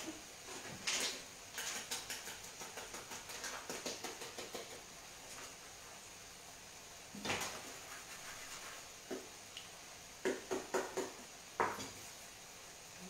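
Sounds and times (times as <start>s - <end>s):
dough sizzling in oil: 0.0s - 13.0s.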